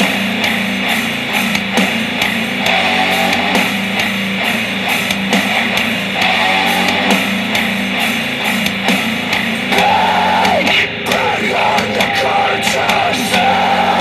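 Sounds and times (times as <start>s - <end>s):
distorted rock music from speaker: 0.0s - 14.0s.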